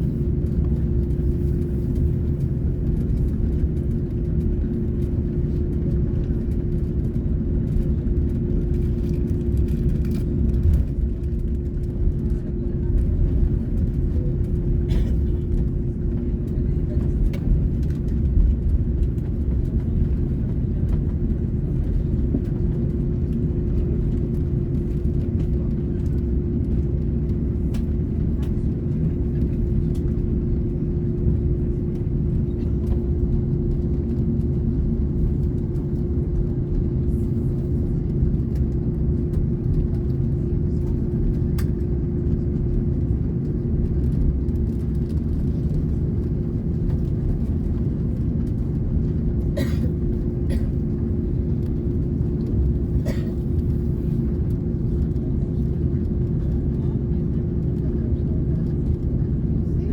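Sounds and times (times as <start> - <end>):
mid-pitched hum: 0.0 - 59.8
aircraft cabin rumble: 0.0 - 59.9.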